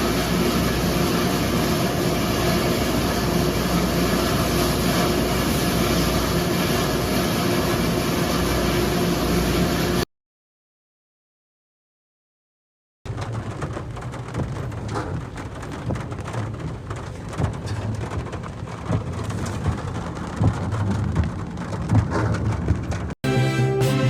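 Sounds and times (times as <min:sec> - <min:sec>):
heavy rain splashing: 0:00.0 - 0:10.0, 0:13.1 - 0:24.0.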